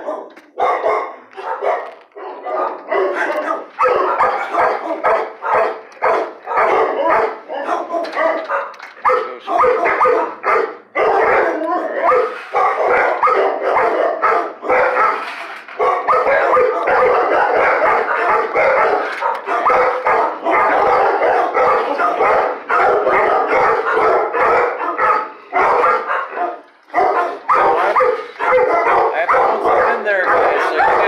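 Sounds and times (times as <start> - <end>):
many dogs barking: 0.0 - 31.0.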